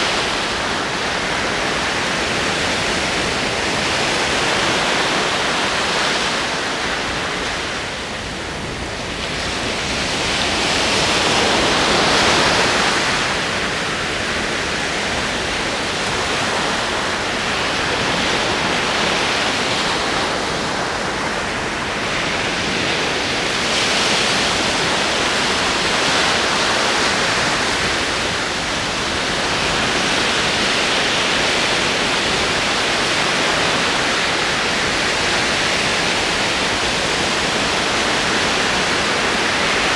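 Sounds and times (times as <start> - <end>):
ocean waves rolling in: 0.0 - 39.9.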